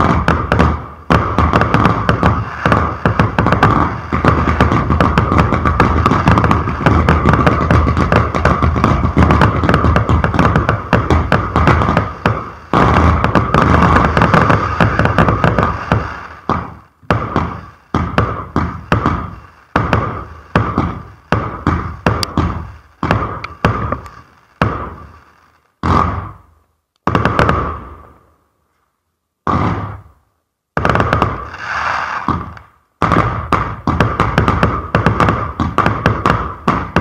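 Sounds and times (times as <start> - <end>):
fireworks bangs: 0.0 - 28.4, 29.4 - 37.0.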